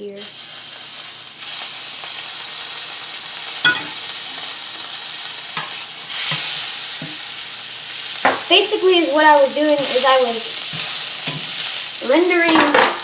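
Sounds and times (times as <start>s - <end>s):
steak fat sizzling in pan: 0.0s - 13.0s.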